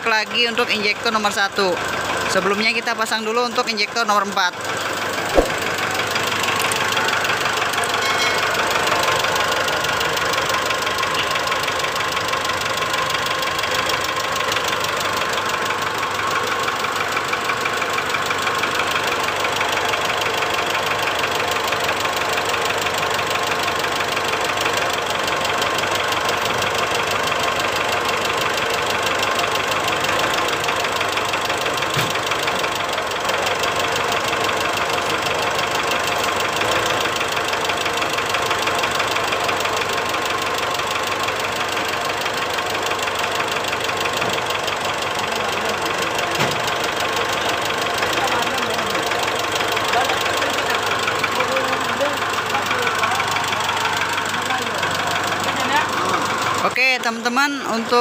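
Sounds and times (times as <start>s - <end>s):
engine idling with rough knock: 0.0s - 58.0s.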